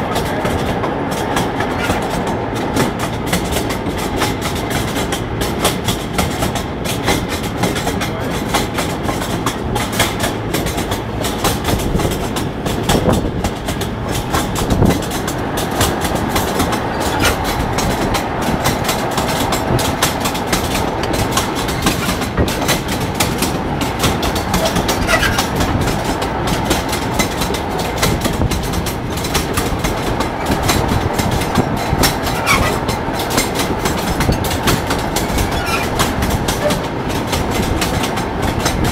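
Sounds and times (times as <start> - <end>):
rail wheels clattering on track: 0.0 - 38.9.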